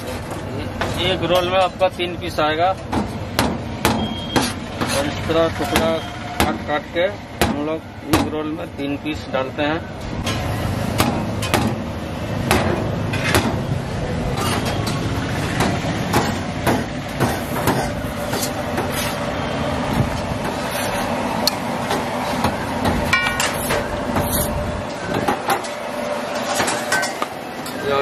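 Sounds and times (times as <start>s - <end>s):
clatter of cooking at griddle: 0.0s - 6.6s, 10.0s - 19.2s, 19.9s - 28.0s
low street rumble: 0.0s - 28.0s.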